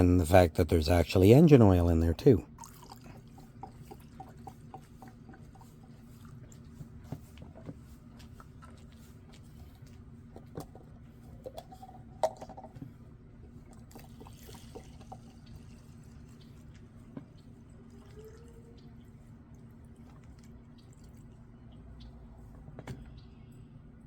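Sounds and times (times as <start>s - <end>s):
faint steady hum: 0.0s - 24.0s
fuel dripping into plastic cups: 0.2s - 23.5s.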